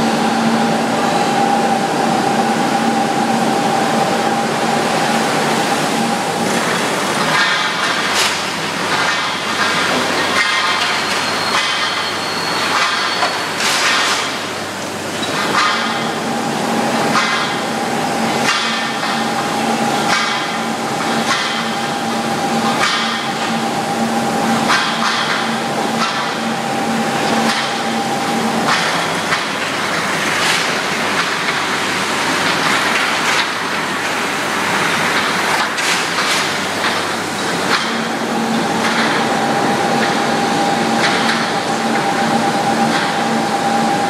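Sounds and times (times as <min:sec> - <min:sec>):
steady machine hum: 0:00.0 - 0:44.0.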